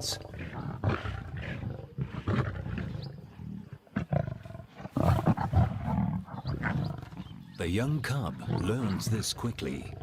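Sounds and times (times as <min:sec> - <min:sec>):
lions growling: 0:00.0 - 0:10.0.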